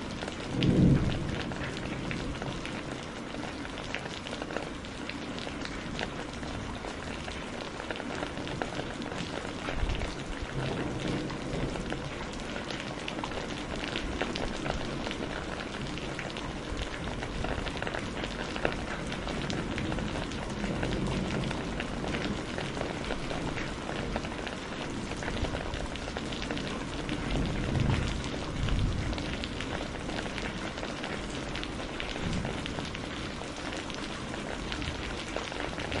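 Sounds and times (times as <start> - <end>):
heavy rain on hard surface: 0.0 - 36.0.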